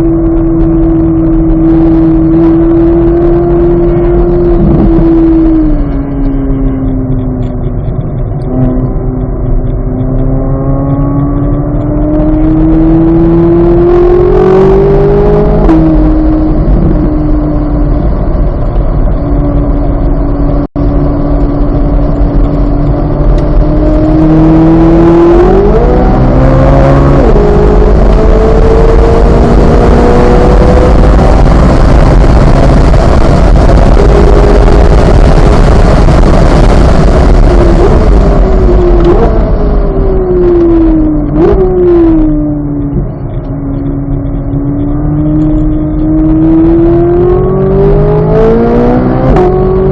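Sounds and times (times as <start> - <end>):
engine rev blips: 0.0 - 49.9
sports car engine accelerating: 0.0 - 49.9
wind and tyre noise: 0.0 - 49.9.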